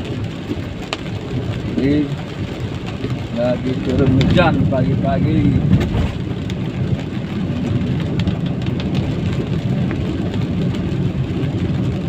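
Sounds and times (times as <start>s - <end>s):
rain: 0.0s - 12.0s
tyres on wet road: 0.0s - 12.0s
vehicle engine rumble: 0.0s - 12.0s.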